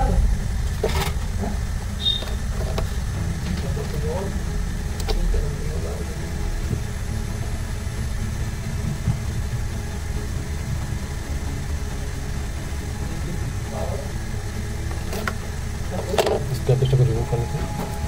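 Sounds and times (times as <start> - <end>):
faint steady hum: 0.0 - 18.0
small motor rumbling: 0.0 - 18.0.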